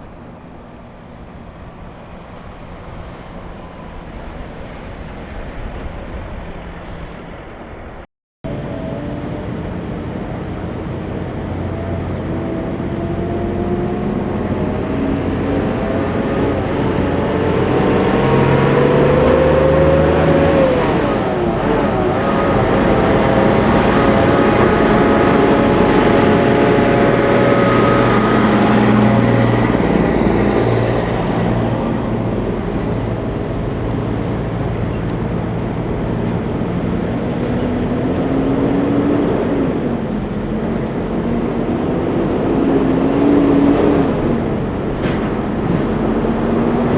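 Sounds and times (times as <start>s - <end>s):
trucks driving past: 0.0s - 46.9s.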